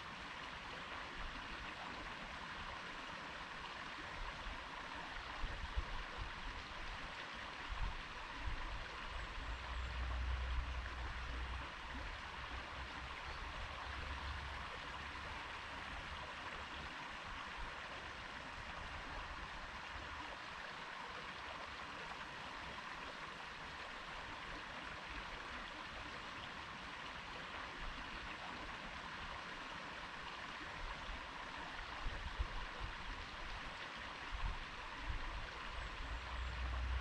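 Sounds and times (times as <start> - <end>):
stream babbling over rocks: 0.0 - 37.0.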